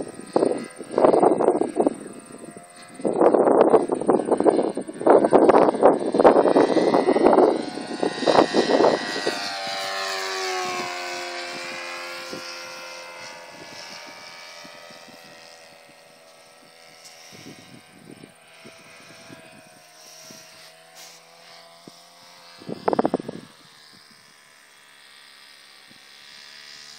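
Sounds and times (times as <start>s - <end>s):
model airplane engine passing: 0.0s - 26.9s.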